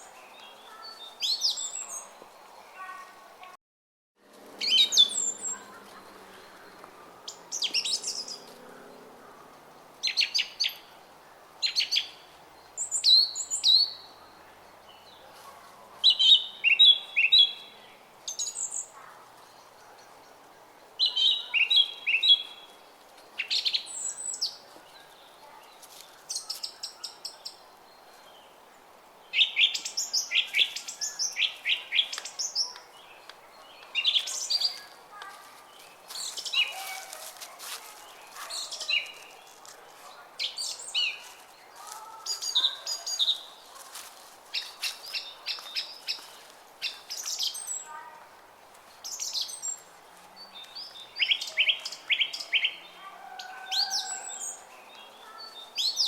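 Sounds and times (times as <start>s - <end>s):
songbirds chirping and trilling: 0.0s - 3.5s, 4.2s - 56.0s.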